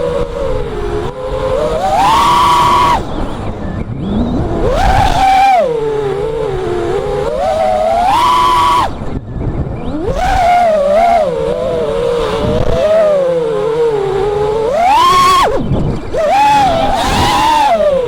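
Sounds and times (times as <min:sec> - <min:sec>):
drone motors whining: 0:00.0 - 0:18.0
low rumble of airflow: 0:00.0 - 0:18.0.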